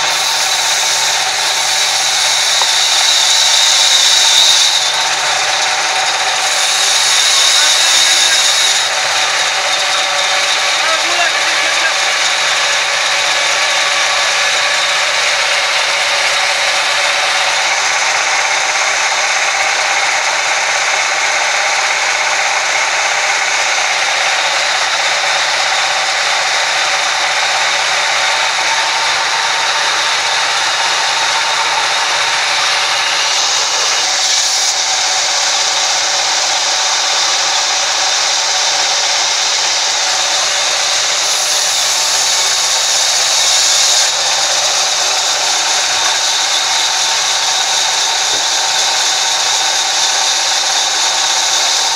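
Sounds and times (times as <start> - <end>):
band saw cutting a log: 0.0 - 51.9.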